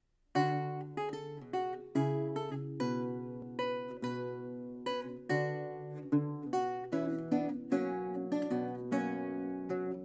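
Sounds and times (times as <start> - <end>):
lute plucked notes: 0.3 - 10.0.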